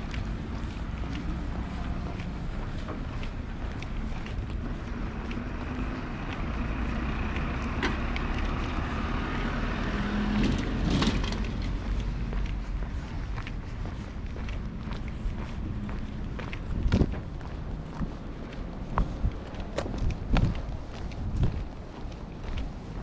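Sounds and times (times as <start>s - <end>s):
engine passing by: 0.0s - 23.0s
footsteps: 0.0s - 23.0s.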